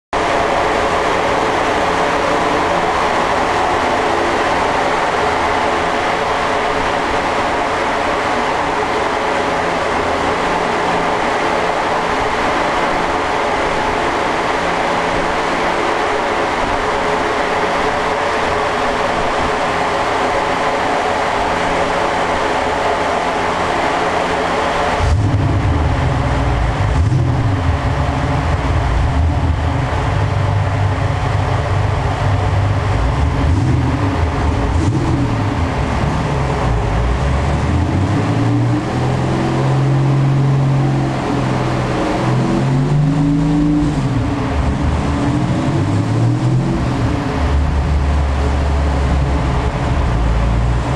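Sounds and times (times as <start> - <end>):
car engine running steadily: 0.1 - 50.9.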